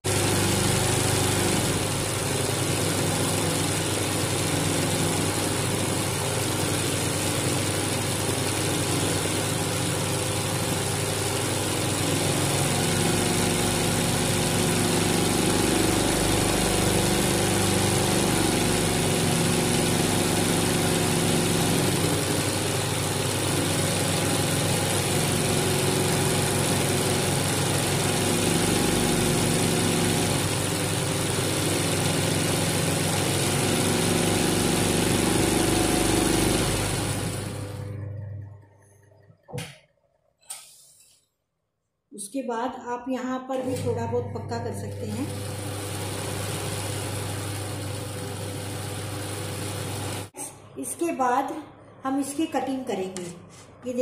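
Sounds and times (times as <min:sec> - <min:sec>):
sewing machine stitching: 0:00.0 - 0:38.0, 0:45.0 - 0:50.4.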